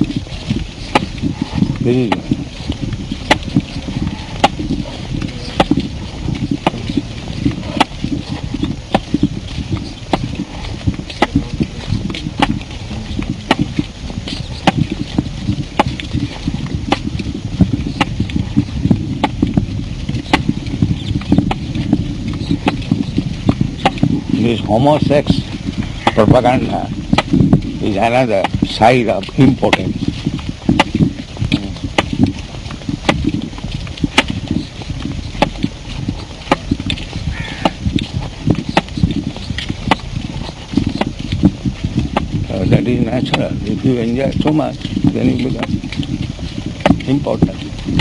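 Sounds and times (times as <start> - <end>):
footsteps scuffing: 0.0 - 48.0
recorder handling rumble: 0.0 - 48.0.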